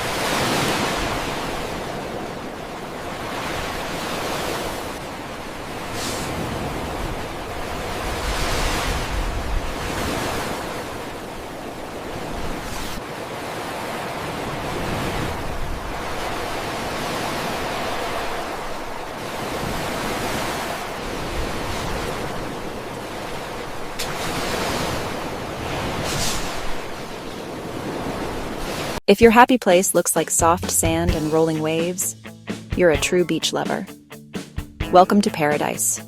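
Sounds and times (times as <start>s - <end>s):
ocean surf washing onto shore: 0.0s - 29.0s.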